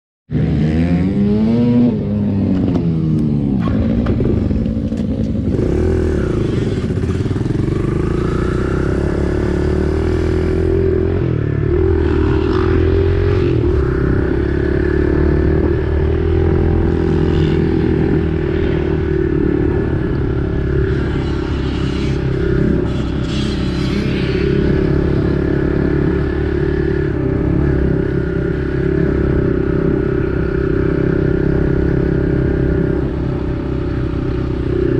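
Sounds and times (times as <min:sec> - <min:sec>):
motorbike engine revving: 0:00.3 - 0:34.9.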